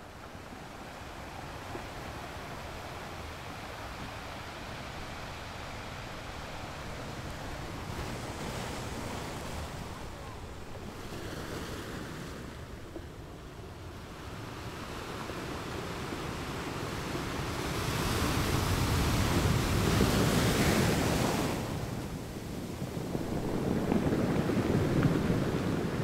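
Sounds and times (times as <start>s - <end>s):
ocean waves: 0.0s - 26.0s.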